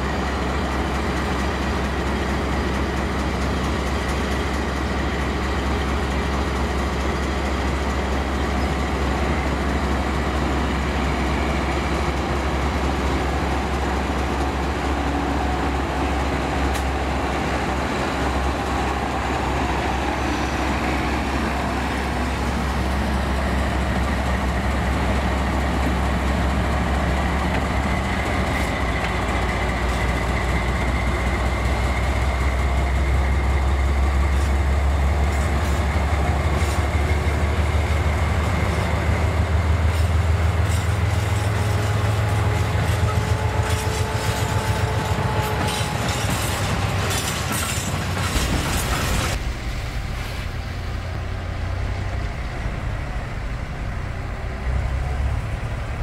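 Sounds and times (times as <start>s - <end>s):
locomotive engine hauling wagons: 0.0s - 56.0s
tractor diesel engine running: 0.0s - 56.0s.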